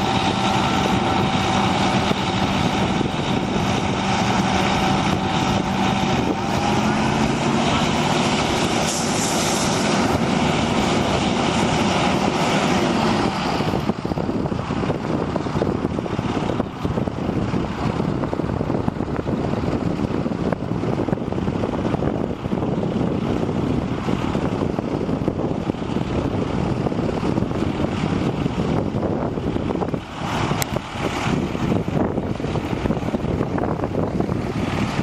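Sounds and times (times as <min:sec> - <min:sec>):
diesel truck engine running: 0:00.0 - 0:35.0
wind noise on microphone: 0:00.0 - 0:35.0.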